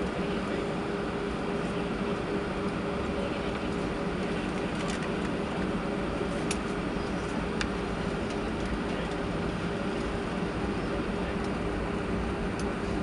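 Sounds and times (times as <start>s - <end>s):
jet engines humming: 0.0s - 13.0s.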